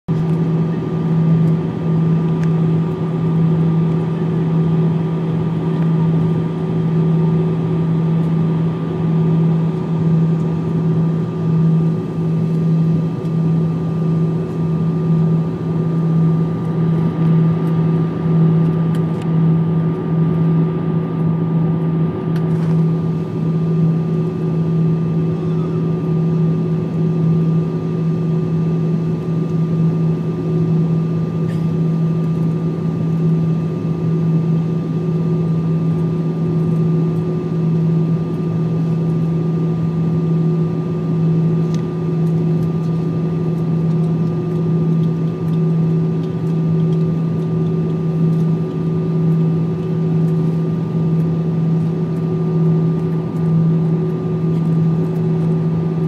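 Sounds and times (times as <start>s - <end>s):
jet cabin engine drone: 0.1s - 56.0s.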